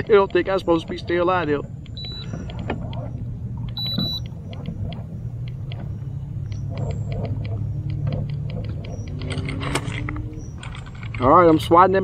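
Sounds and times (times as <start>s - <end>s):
electric trolling motor humming: 0.0s - 11.3s.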